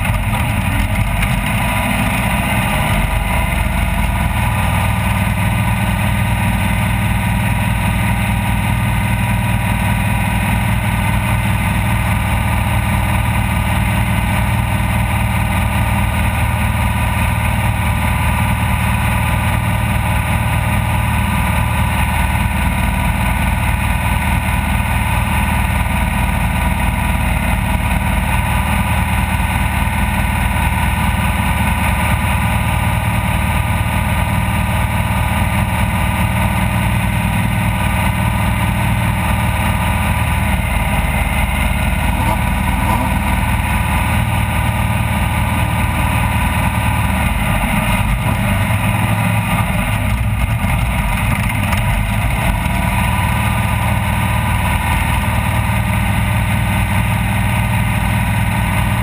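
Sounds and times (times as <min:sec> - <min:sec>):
engine running loud and steady: 0:00.0 - 0:59.0.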